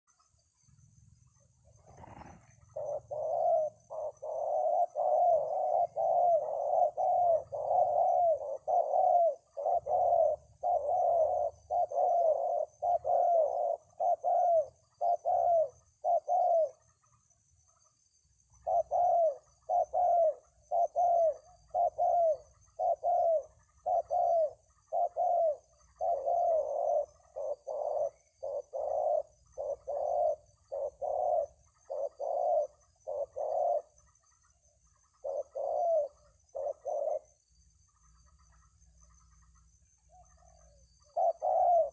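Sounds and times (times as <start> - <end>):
dove cooing: 1.3 - 17.8, 18.4 - 41.9.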